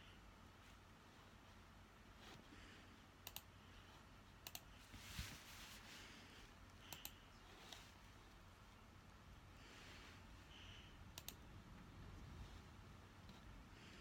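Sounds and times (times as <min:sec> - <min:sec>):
soft rustle: 0:00.5 - 0:03.0, 0:03.7 - 0:08.9, 0:09.5 - 0:10.9, 0:11.8 - 0:14.0.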